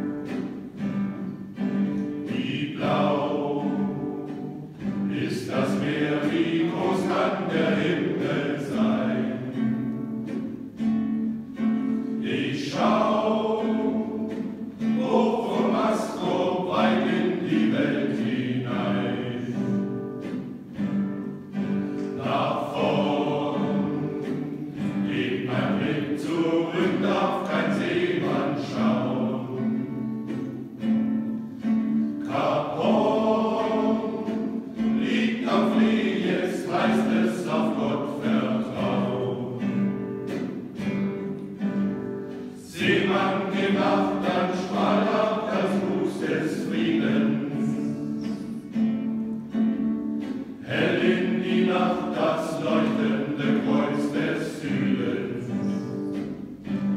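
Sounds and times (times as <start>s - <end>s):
male choir singing in harmony: 0.0s - 49.8s, 50.4s - 56.9s.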